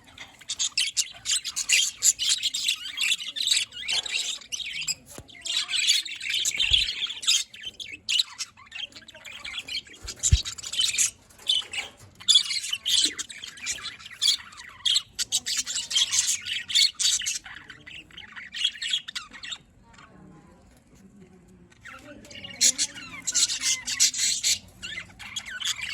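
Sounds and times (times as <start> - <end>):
budgerigars chattering and chirping: 0.0 - 20.2, 21.7 - 25.9.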